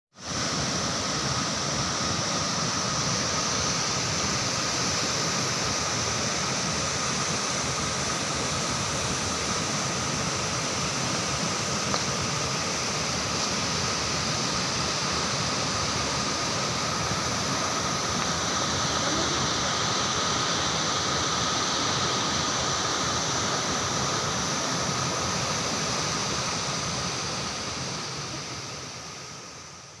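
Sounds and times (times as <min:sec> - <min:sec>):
waterfall rushing: 0:00.2 - 0:30.0.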